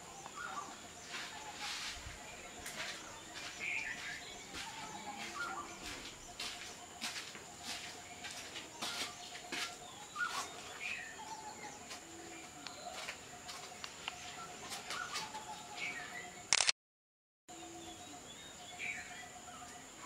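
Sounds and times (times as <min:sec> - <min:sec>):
birds chirping: 0:00.0 - 0:16.5.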